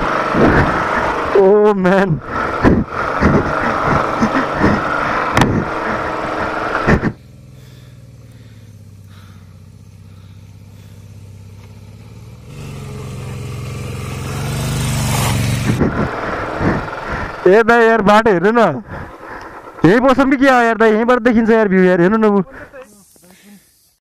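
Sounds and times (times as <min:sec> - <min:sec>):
motorcycle engine running: 0:00.0 - 0:23.6.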